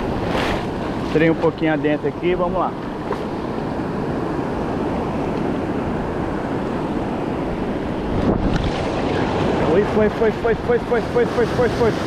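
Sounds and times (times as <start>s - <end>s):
sea surf breaking: 0.0s - 12.0s
wind buffeting microphone: 0.0s - 12.0s.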